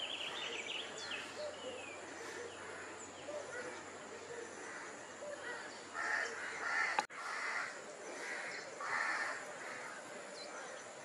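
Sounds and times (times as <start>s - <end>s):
bird harsh calls: 0.0s - 10.0s.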